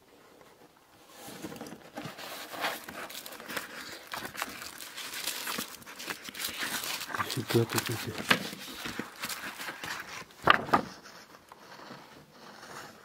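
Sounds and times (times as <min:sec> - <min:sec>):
papers rustling and crinkling: 0:00.4 - 0:13.0.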